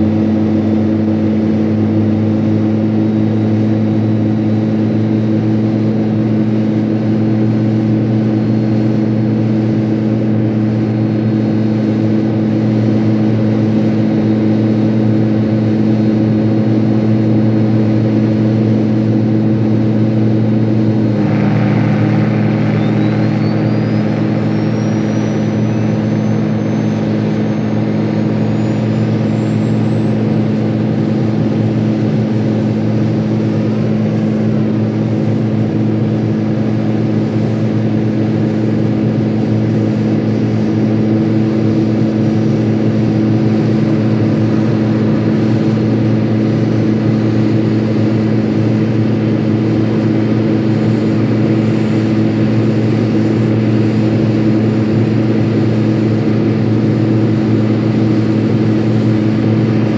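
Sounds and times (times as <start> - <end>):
helicopter engine low hum: 0.0 - 59.9
high turbine whine rising: 0.0 - 59.9.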